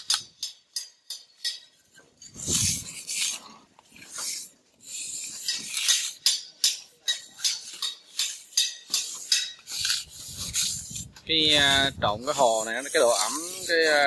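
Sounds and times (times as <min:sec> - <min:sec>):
trowel scraping wet mortar: 0:01.1 - 0:14.0.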